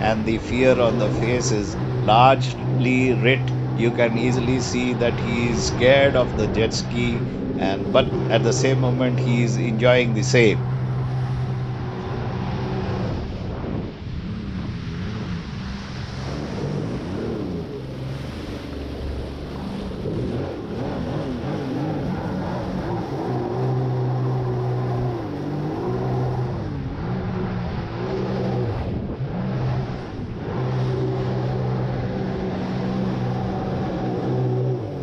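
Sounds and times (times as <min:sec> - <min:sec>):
jet ski engine running hard: 0:00.0 - 0:35.0.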